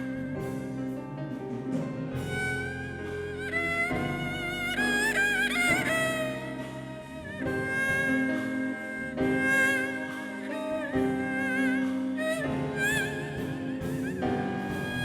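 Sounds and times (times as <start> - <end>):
traditional instrumental music: 0.0 - 15.0.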